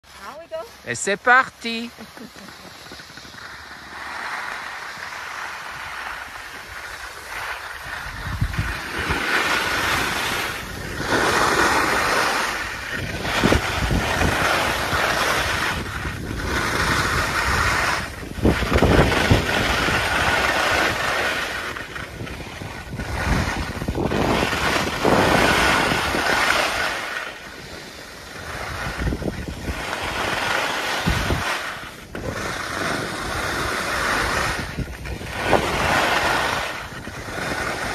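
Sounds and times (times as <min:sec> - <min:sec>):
skis scraping on snow: 0:00.0 - 0:37.9
wind on microphone: 0:02.0 - 0:37.9.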